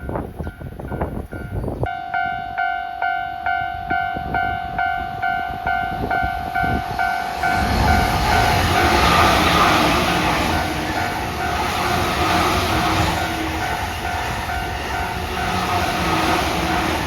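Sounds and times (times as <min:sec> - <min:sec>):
electric train passing: 0:00.3 - 0:17.0
level crossing warning bell ringing: 0:01.3 - 0:17.0.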